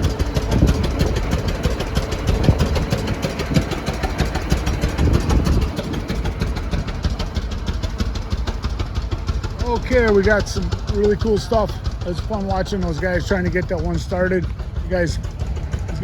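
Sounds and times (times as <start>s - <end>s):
old engine running: 0.0s - 16.0s.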